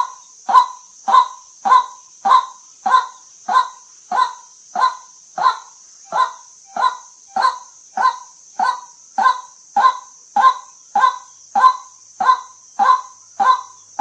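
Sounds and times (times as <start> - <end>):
waterhen harsh calls: 0.0 - 13.8
steady high hiss: 0.0 - 14.0.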